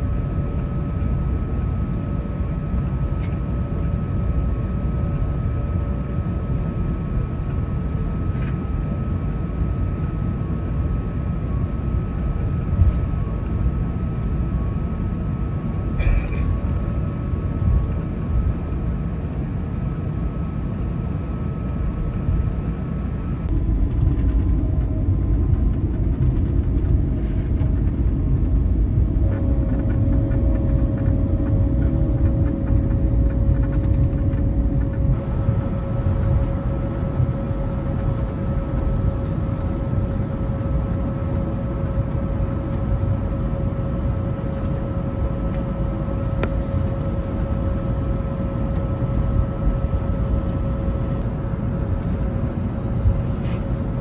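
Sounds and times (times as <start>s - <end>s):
aircraft cabin rumble: 0.0s - 54.0s
faint hum tones: 0.0s - 54.0s.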